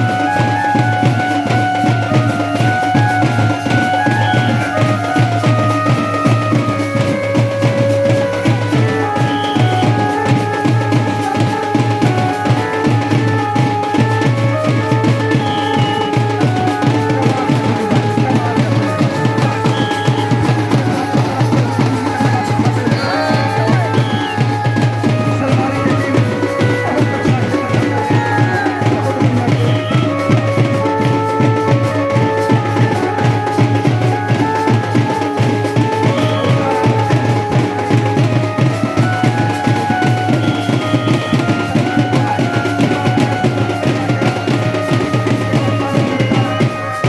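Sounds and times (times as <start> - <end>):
music with fast drumming: 0.0 - 47.0.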